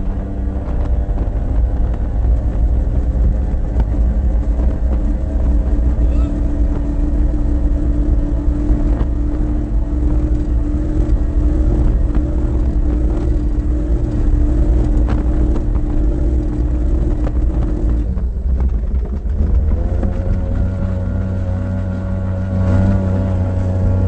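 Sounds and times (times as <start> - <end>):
powerboat engine running: 0.0 - 24.0
rumble of wind and water: 0.0 - 24.0.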